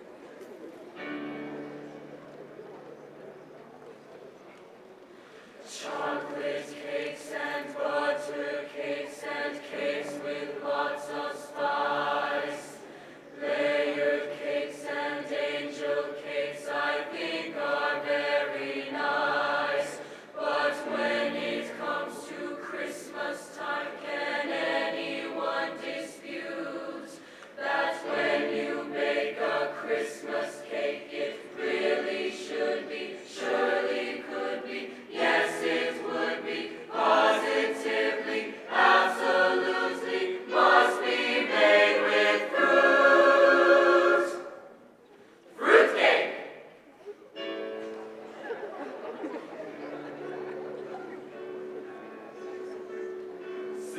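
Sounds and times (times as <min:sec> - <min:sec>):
choir singing in harmony: 0:05.6 - 0:44.9, 0:45.6 - 0:46.8, 0:47.4 - 0:53.9.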